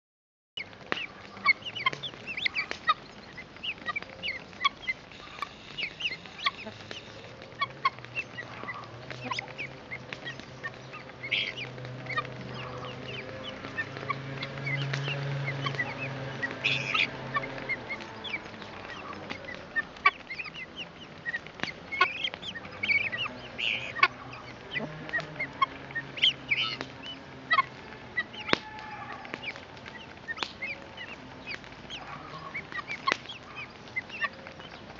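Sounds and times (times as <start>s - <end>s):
guineafowl calls and clicks: 0.6s - 34.9s.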